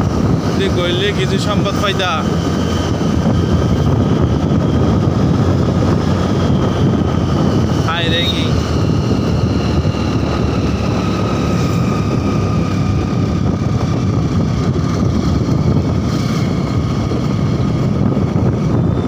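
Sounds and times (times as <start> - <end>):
motorcycle cruising: 0.0 - 19.0
wind on microphone: 0.0 - 19.0.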